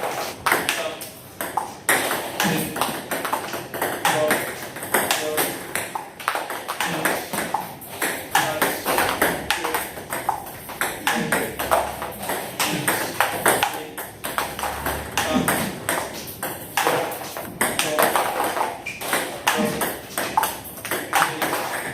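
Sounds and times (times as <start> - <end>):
table tennis balls clicking: 0.0 - 21.9.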